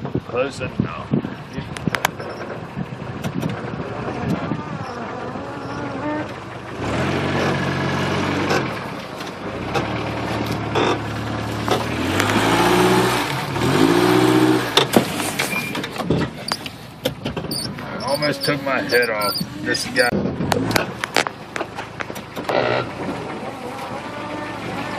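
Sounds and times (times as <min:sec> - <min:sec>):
truck engine revving: 0:01.7 - 0:24.9.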